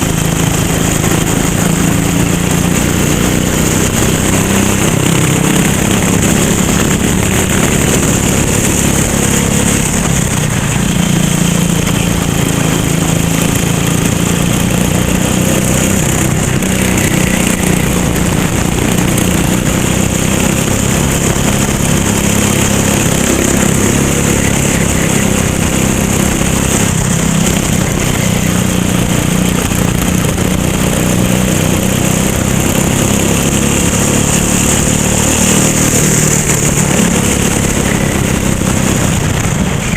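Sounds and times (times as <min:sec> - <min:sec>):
racing kart engine running: 0:00.0 - 0:39.9.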